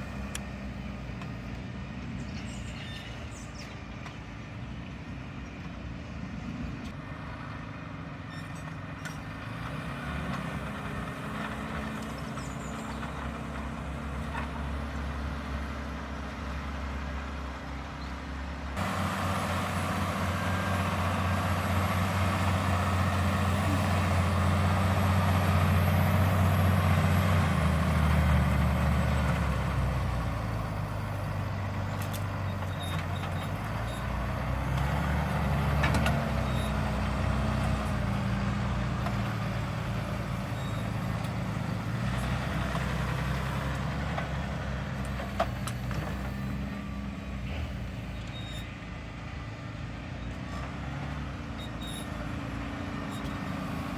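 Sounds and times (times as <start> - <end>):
tractor engine under load: 6.8 - 53.9.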